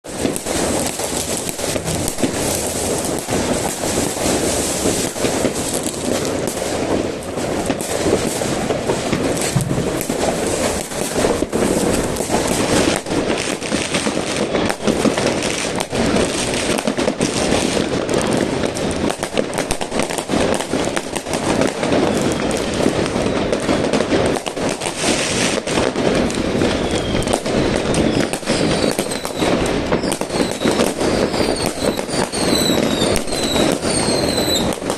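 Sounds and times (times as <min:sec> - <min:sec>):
fireworks bangs and crackling: 0:00.0 - 0:34.9
whistling rockets: 0:00.0 - 0:34.9.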